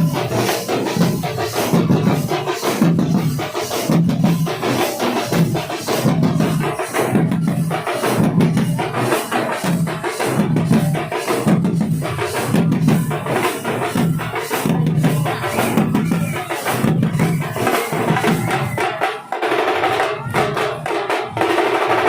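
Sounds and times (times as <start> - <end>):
deep drum beats: 0.0 - 22.0.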